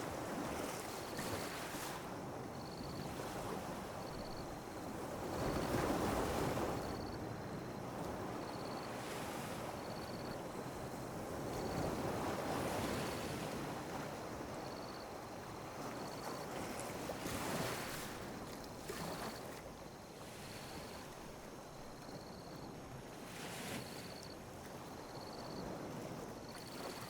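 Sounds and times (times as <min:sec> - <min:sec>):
sea waves lapping on beach: 0:00.0 - 0:14.8, 0:15.4 - 0:22.3.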